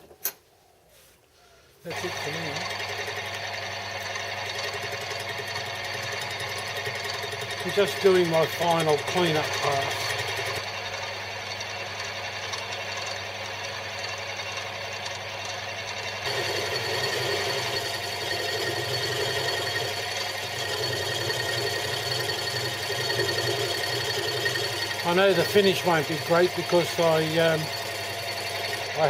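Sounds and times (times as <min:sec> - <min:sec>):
metal lathe cutting: 0:01.9 - 0:29.0.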